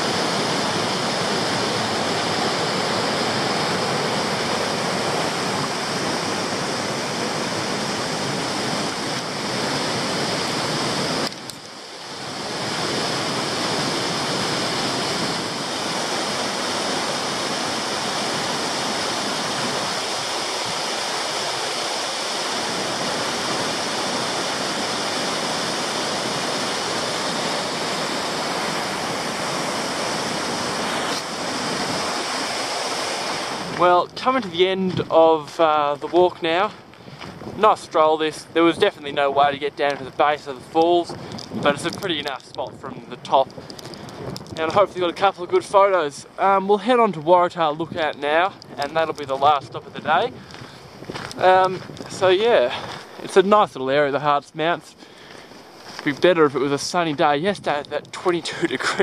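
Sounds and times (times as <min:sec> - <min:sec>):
water rushing over rock: 0:00.0 - 0:36.7, 0:37.3 - 0:55.0.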